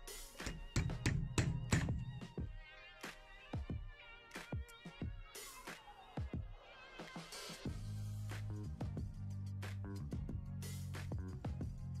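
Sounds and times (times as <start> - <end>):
electronic music with kick drum: 0.0 - 2.6, 3.5 - 6.6, 7.5 - 9.4, 10.0 - 12.0.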